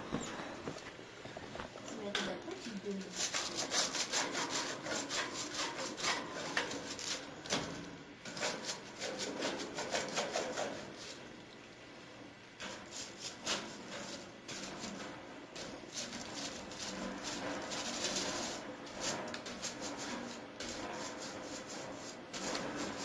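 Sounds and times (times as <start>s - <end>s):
scrub brush scrubbing metal grating: 2.6s - 7.6s, 8.2s - 11.3s, 12.6s - 23.0s.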